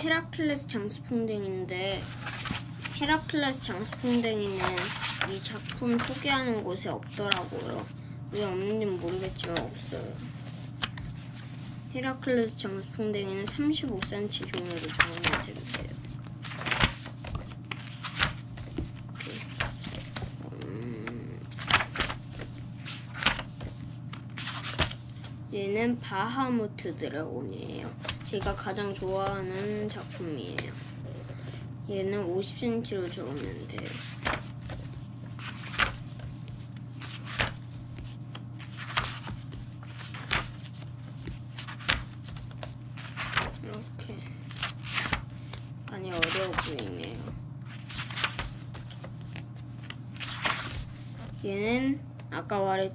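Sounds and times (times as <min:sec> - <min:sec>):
steady low hum: 0:00.0 - 0:52.9
book pages turning: 0:01.9 - 0:25.4, 0:27.9 - 0:31.7, 0:32.9 - 0:51.5.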